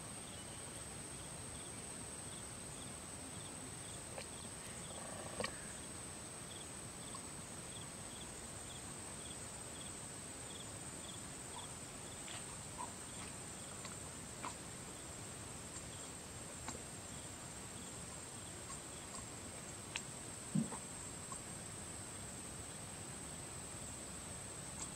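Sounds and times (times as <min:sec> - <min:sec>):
insects chirping: 0:00.1 - 0:24.9.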